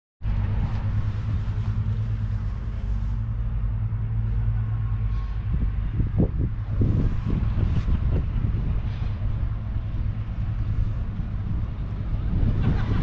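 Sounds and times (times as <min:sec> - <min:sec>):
tractor diesel engine running: 0:00.2 - 0:13.0.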